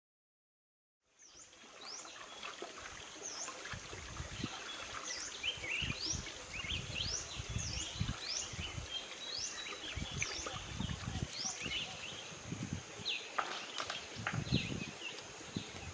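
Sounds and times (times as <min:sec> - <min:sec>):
running water: 0:01.1 - 0:15.9
feet wading through shallow water: 0:01.4 - 0:15.9.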